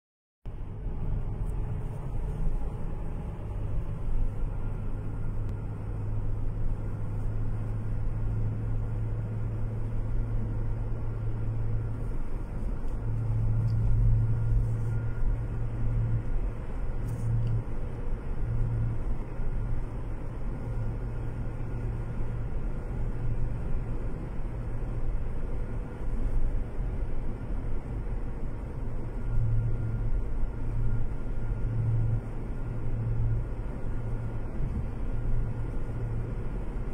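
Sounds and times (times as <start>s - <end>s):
car engine and tyre drone: 0.5s - 36.9s.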